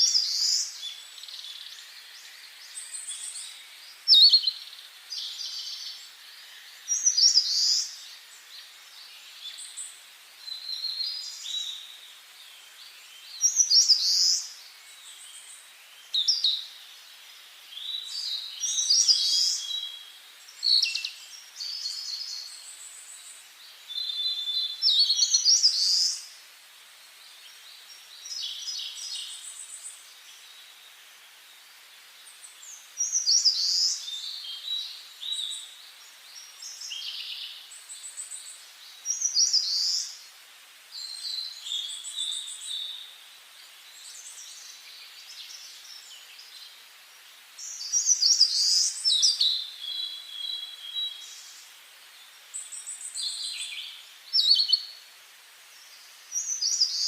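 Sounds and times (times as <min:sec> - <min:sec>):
faint steady hiss: 0:00.0 - 0:57.0
songbirds singing: 0:00.0 - 0:57.0.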